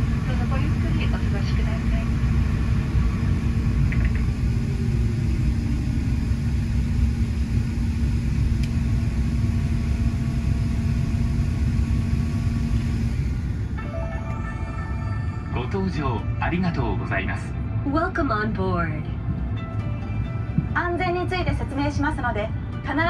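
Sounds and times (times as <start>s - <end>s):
airliner cabin rumble and hum: 0.0s - 23.0s.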